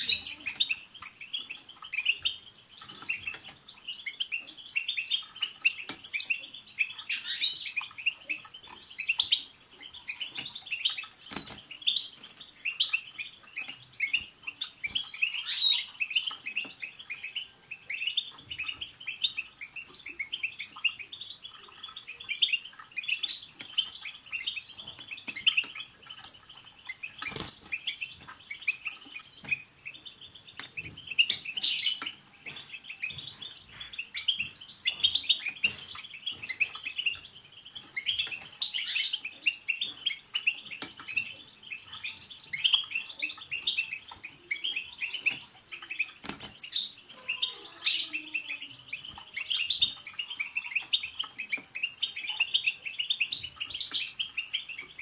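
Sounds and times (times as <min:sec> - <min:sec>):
goldfinches twittering: 0:00.0 - 0:55.0.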